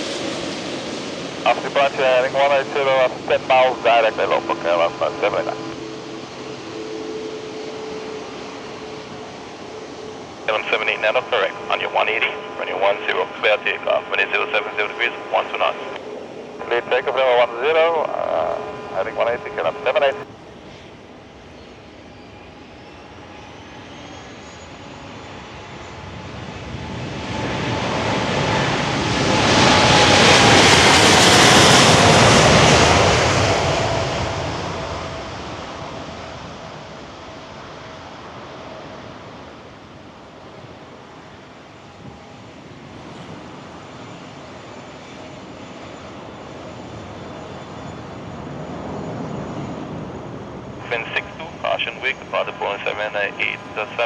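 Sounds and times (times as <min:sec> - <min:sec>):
jet engines roaring past: 0:00.0 - 0:54.0.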